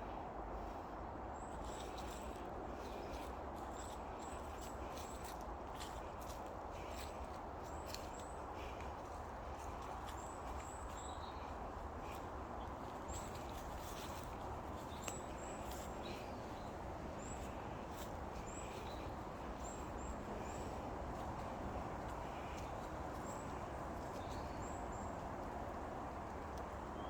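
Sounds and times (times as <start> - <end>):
footsteps on woodland path: 1.4 - 27.0
small birds chirping: 1.4 - 27.0.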